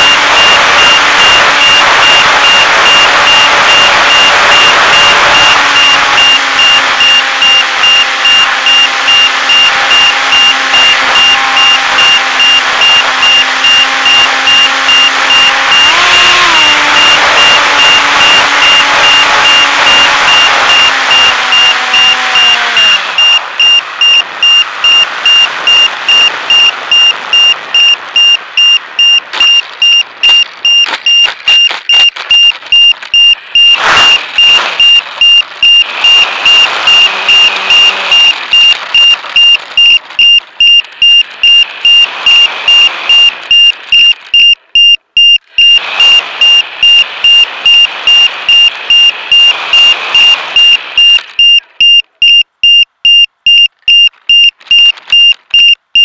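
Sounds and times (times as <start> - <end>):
rushing noise: 0.0 - 44.4, 45.4 - 51.4
rapid high electronic beeping: 0.0 - 56.0.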